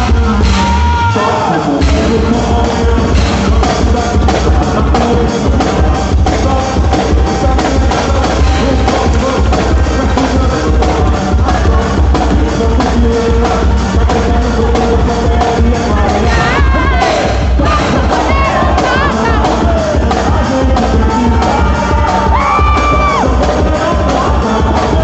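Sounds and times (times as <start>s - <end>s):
dance music with drum beat: 0.0s - 25.0s.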